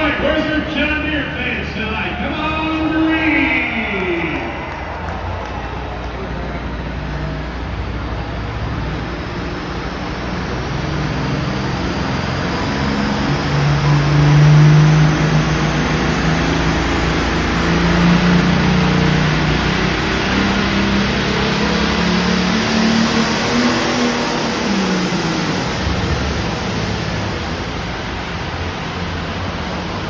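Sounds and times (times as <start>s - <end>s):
high turbo whine: 0.0s - 30.0s
tractor diesel engine under load: 0.0s - 30.0s.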